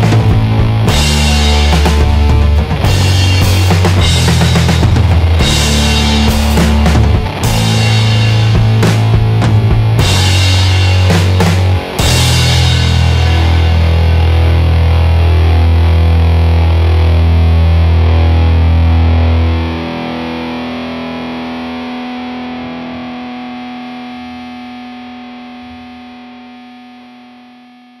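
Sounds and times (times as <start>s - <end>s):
low bass: 0.0s - 25.6s
rock music: 0.0s - 27.8s
distorted guitar chord: 0.0s - 28.0s.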